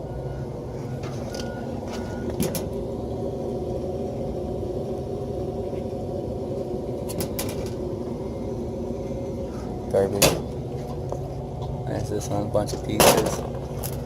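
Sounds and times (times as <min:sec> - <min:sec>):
machine drone: 0:00.0 - 0:14.0.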